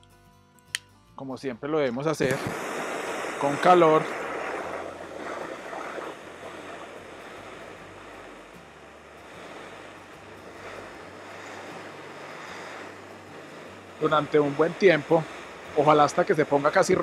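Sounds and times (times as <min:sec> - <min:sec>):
gas torch hissing: 0:02.2 - 0:17.0.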